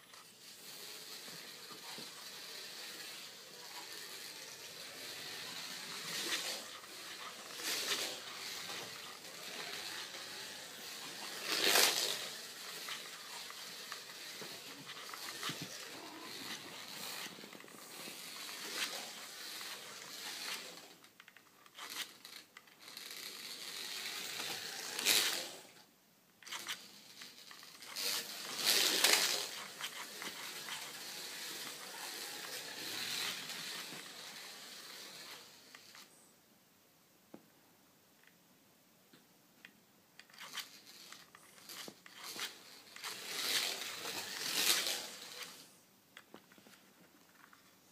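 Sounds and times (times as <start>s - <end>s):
slot car motor whirring: 0.0s - 25.8s, 26.4s - 36.1s, 40.3s - 45.8s.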